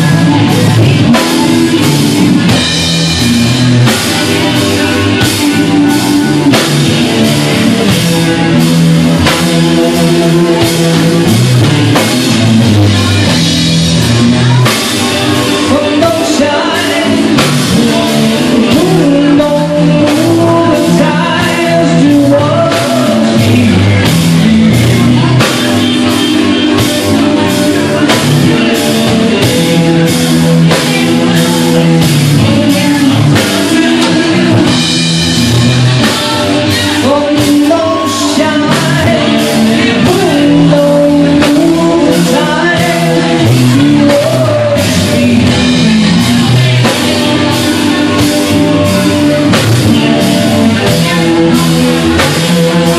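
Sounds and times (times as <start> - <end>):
drum kit beat: 0.0 - 52.9
electric bass: 0.0 - 52.9
electric guitar: 0.0 - 52.9.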